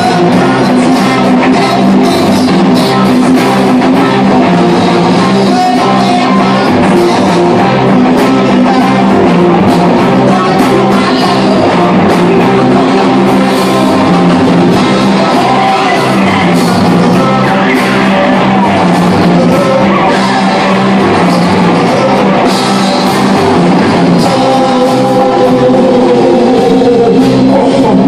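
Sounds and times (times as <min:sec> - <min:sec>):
bass guitar: 0:00.0 - 0:28.0
drum kit: 0:00.0 - 0:28.0
electric guitars: 0:00.0 - 0:28.0.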